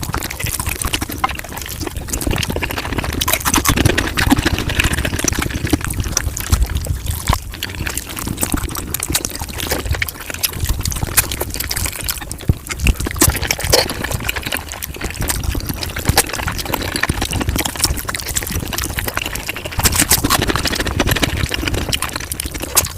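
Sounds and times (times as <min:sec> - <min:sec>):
person chewing: 0:00.0 - 0:22.9.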